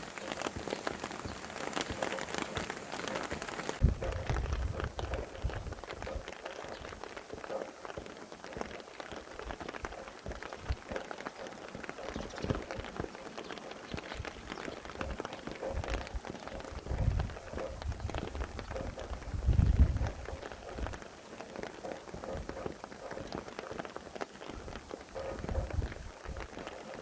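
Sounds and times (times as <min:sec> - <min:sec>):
low gusts of wind: 0:00.0 - 0:27.0
raindrops pattering: 0:00.0 - 0:27.0
steady rain falling: 0:00.0 - 0:27.0.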